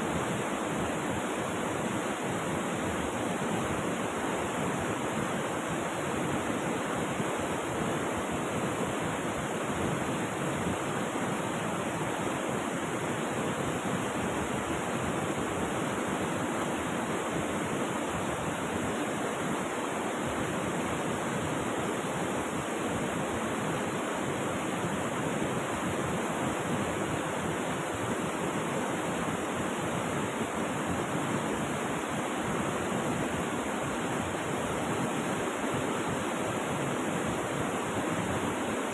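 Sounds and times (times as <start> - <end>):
rushing river water: 0.1 - 38.9.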